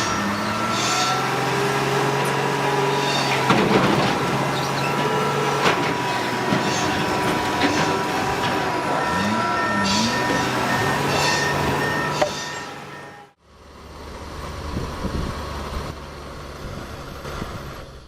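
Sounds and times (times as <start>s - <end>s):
heavy machine running: 0.0s - 17.8s.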